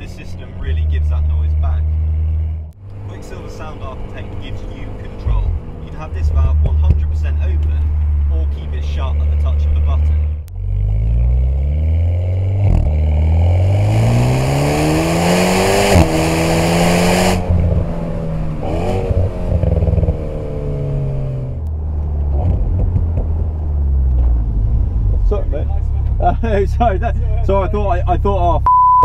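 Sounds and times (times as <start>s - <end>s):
car engine accelerating: 0.0s - 28.6s.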